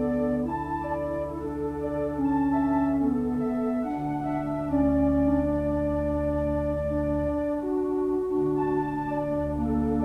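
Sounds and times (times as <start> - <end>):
organ playing slow chords: 0.0 - 10.0.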